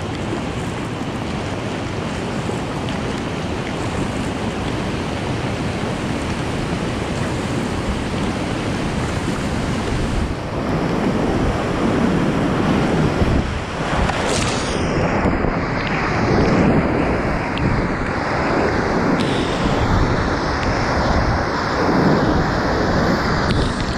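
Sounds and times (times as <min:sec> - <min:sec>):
rushing whitewater: 0:00.0 - 0:23.9
wind noise on microphone: 0:00.0 - 0:23.9.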